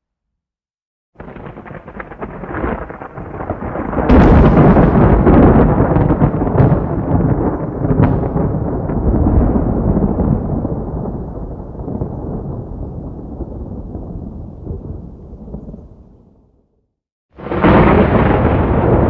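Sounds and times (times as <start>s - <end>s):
thunder cracking and rumbling: 1.2s - 16.6s, 17.4s - 19.0s.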